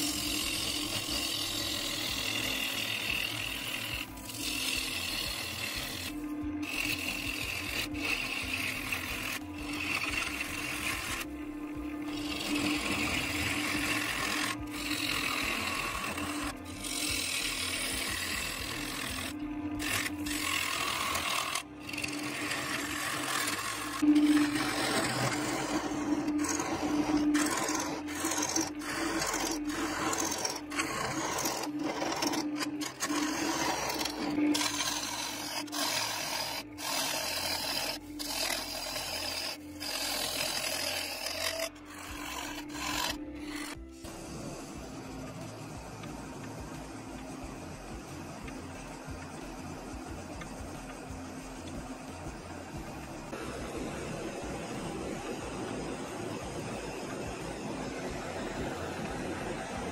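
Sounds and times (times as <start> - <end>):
gouge shaving wood on lathe: 0.0 - 59.9
lathe motor hum: 0.0 - 59.9.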